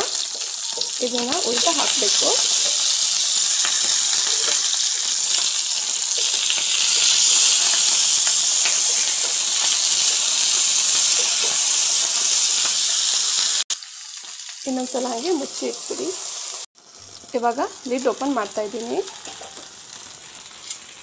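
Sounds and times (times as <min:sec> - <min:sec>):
fish frying in oil: 0:00.0 - 0:21.0.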